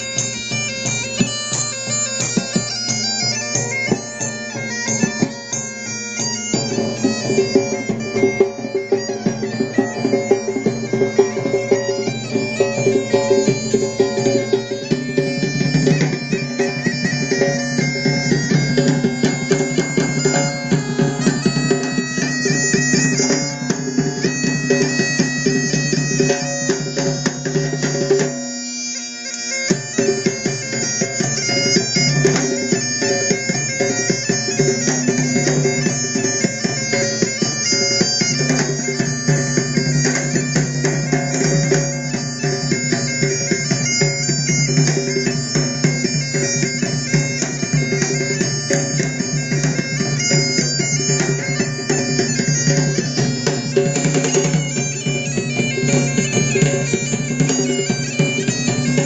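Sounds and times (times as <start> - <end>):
bagpipes playing: 0.0 - 59.0
hand drum beating: 6.5 - 28.5, 29.7 - 59.0.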